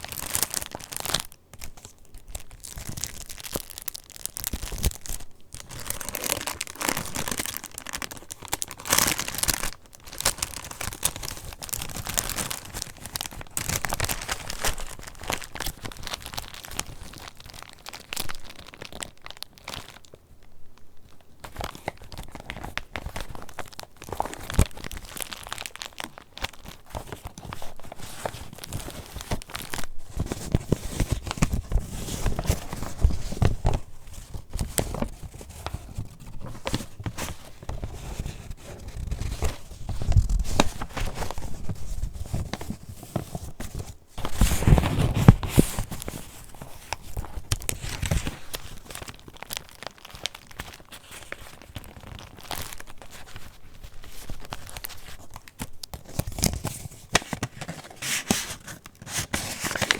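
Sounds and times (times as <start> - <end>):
paper pages rustling and crinkling: 0.0 - 20.1, 21.4 - 59.9.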